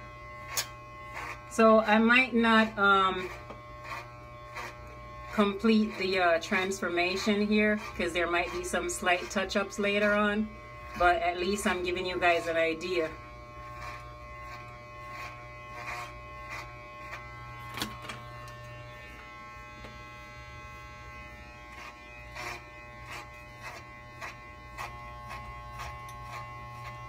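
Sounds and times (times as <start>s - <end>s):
electric hair clippers buzzing: 0.0s - 27.0s.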